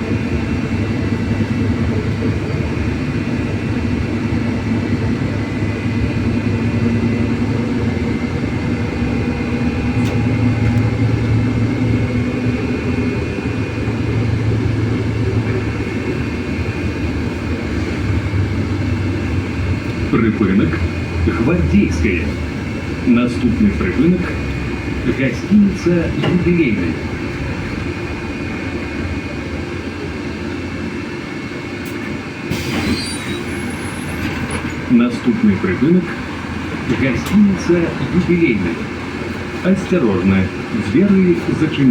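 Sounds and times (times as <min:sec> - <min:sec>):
electric bus cabin rumble: 0:00.0 - 0:41.9
high electric drive whine: 0:00.0 - 0:41.9.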